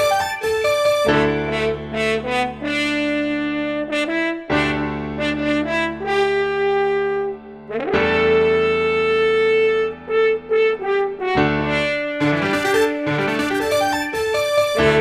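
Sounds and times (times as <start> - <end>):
brass-like melody over low chords: 0.0 - 15.0.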